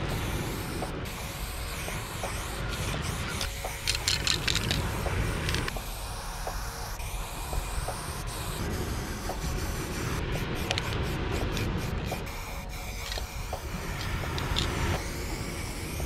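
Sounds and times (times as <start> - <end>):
spray paint can hissing: 0.0 - 16.0.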